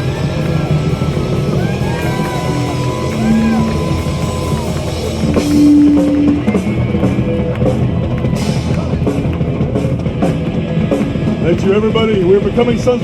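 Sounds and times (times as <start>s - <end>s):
electric guitar: 0.0s - 12.6s
drum kit: 0.0s - 13.0s.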